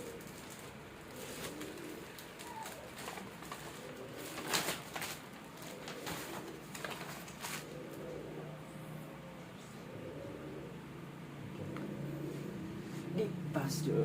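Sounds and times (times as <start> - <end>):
bird cooing: 0.0 - 14.0.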